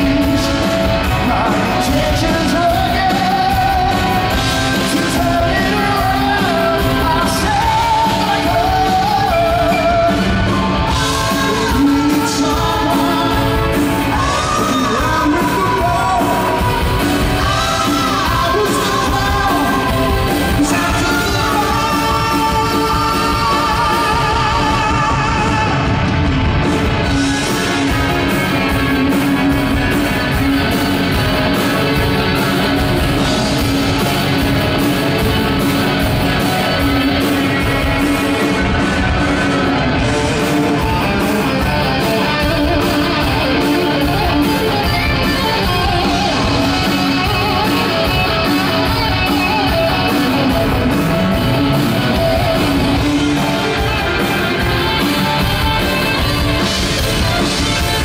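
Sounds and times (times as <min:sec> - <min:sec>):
electric guitar: 0:00.0 - 0:58.0
live rock band playing: 0:00.0 - 0:58.0.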